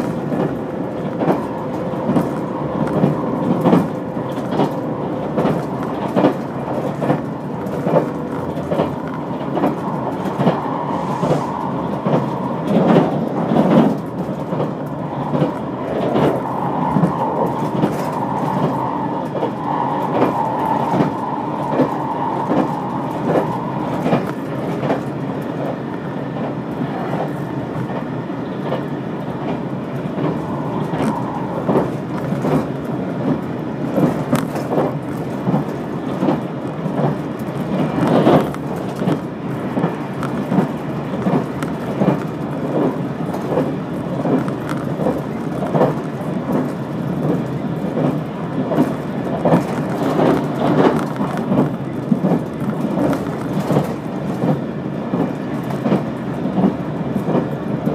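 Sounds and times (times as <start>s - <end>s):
train rumbling on track: 0.0s - 57.9s
wheels clicking over rail joints: 0.0s - 57.9s.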